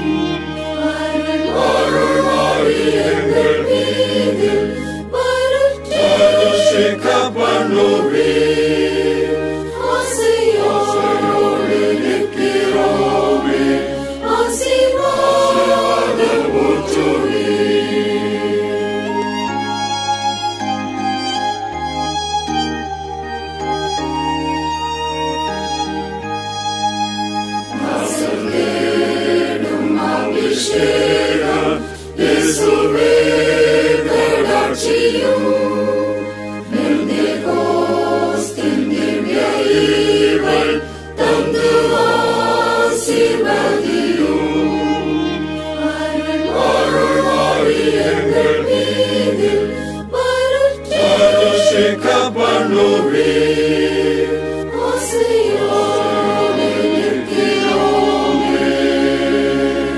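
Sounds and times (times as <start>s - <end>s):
choir singing a hymn: 0.0s - 21.7s, 25.3s - 59.9s
held bass notes: 0.0s - 59.9s.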